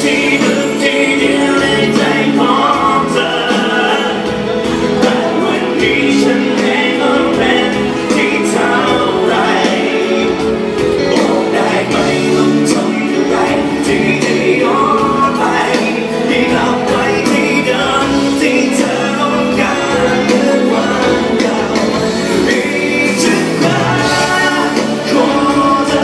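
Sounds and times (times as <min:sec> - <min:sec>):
drums keeping a beat: 0:00.0 - 0:26.0
live band with singing: 0:00.0 - 0:26.0.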